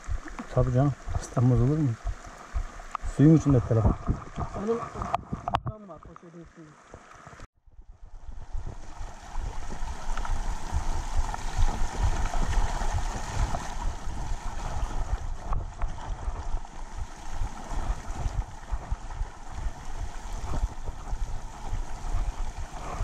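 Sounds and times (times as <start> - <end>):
wind buffeting microphone: 0.0 - 5.9, 7.4 - 23.0
splashing through mud and water: 0.0 - 7.5, 8.3 - 23.0.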